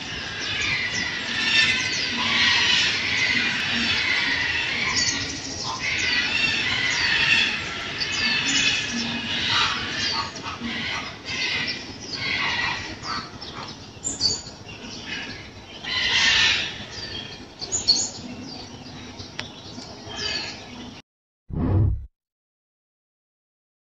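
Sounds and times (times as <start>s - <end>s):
birds chirping and squawking: 0.0s - 21.0s.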